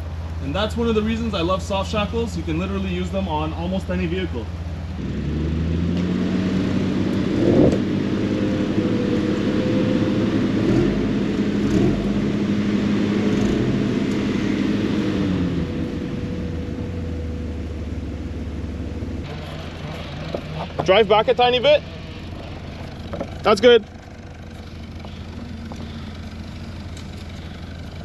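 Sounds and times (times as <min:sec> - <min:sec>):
vehicle engine at raised revs: 0:00.0 - 0:28.0.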